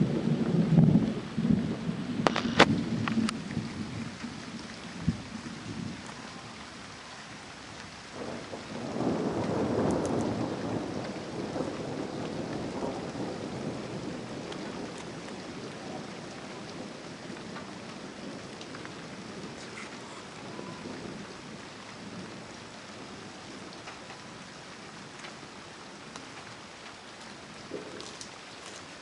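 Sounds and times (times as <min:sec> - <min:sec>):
steady rain falling: 0:00.0 - 0:29.0
thunder rumbling: 0:00.0 - 0:29.0.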